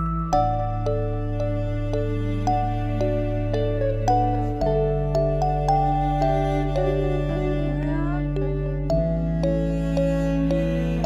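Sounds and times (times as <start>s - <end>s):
held low chords: 0.0s - 11.0s
slow crisp melody: 0.0s - 11.0s.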